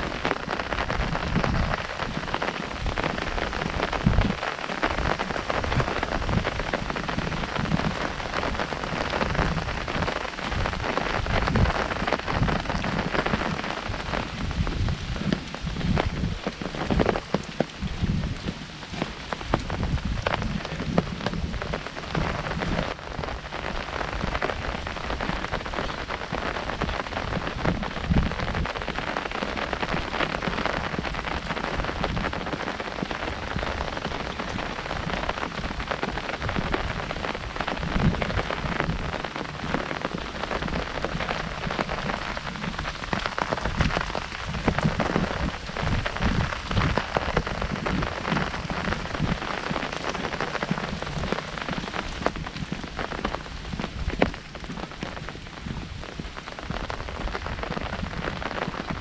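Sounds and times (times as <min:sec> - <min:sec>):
rain pattering on an umbrella: 0:00.0 - 0:59.0.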